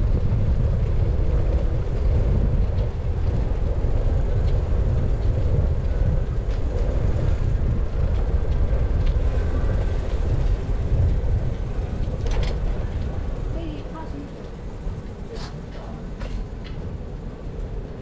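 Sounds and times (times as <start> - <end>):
bicycle tyres rolling: 0.0 - 18.0
wind on microphone: 0.0 - 18.0.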